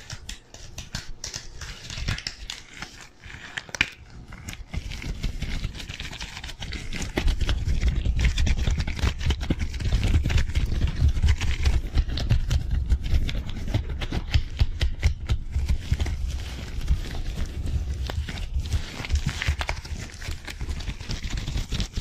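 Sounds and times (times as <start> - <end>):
gloves rubbing and crinkling: 0.0 - 22.0.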